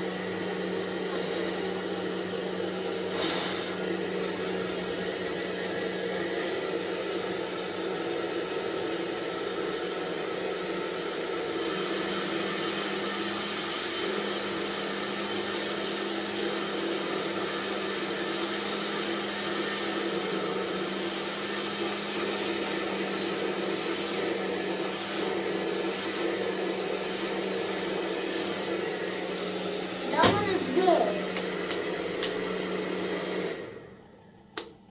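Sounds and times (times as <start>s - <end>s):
hair dryer blowing: 0.0s - 34.9s.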